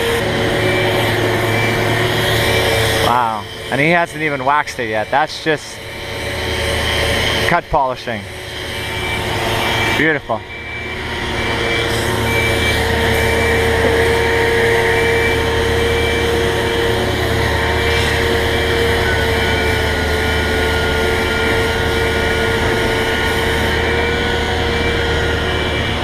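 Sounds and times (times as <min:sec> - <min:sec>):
electric polisher motor whine: 0:00.0 - 0:26.0
higher tone: 0:00.0 - 0:26.0.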